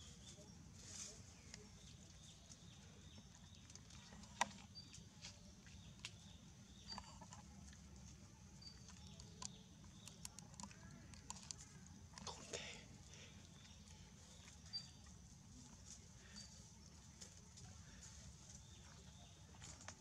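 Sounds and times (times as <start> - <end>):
faint clicks and rustles: 0.2 - 20.0.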